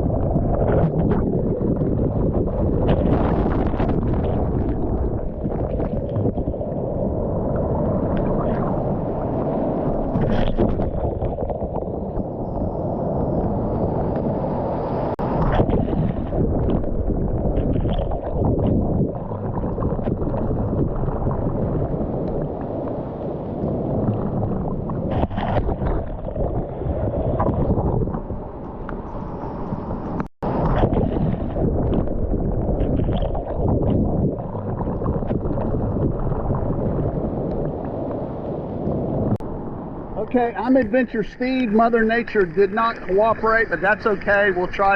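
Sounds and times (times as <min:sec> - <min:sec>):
ocean surf washing on beach: 0:00.0 - 0:44.9
wind buffeting microphone: 0:00.0 - 0:44.9.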